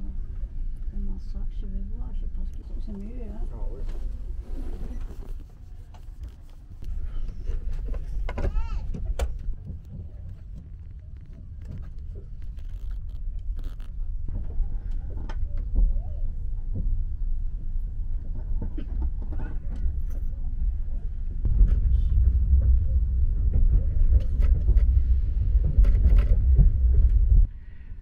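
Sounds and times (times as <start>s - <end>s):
train carriage rumble: 0.0s - 28.0s.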